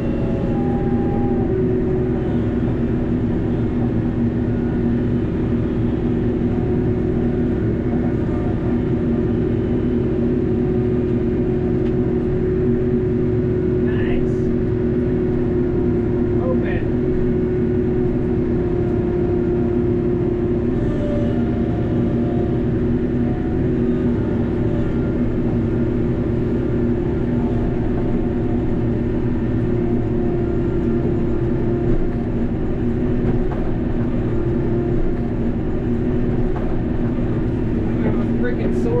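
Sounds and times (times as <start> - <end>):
tractor diesel engine drone: 0.0 - 39.0.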